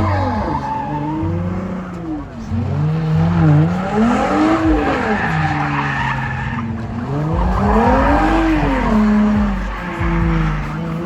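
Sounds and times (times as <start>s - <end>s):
car engine revving: 0.0s - 11.0s
tyres squealing and skidding: 0.0s - 11.0s.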